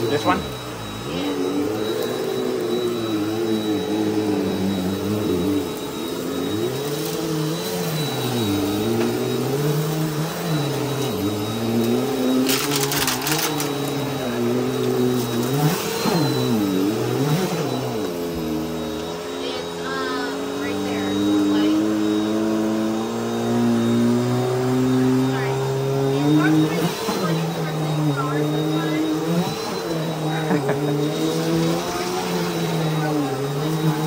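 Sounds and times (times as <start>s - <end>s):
upright vacuum motor running: 0.0s - 34.0s.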